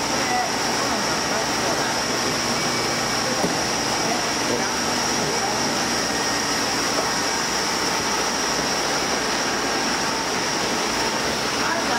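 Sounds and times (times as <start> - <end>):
high-pitched whine: 0.0 - 11.9.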